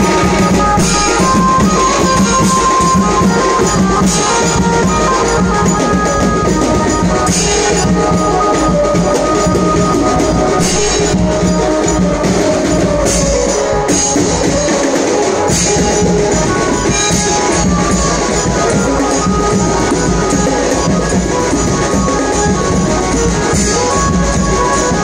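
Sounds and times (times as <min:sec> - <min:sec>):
jingling percussion: 0:00.0 - 0:25.0
procession band music: 0:00.0 - 0:25.0
steady drumming: 0:00.0 - 0:25.0.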